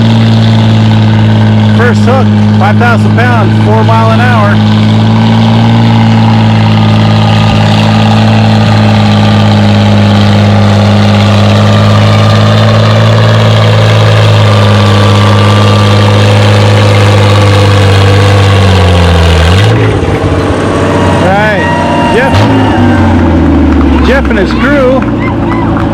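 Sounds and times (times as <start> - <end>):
tractor engine running hard: 0.0 - 25.9.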